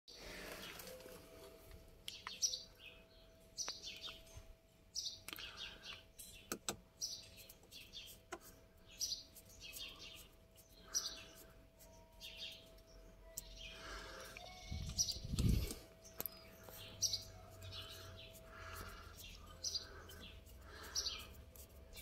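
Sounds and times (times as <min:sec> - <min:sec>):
bird chirping: 0:02.1 - 0:22.0.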